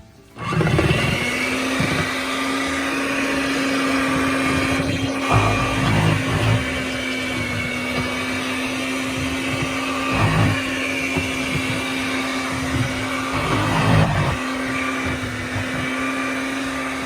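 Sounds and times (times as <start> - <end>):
thick mixture churning: 0.0 - 17.0
electric blender running: 0.3 - 17.0.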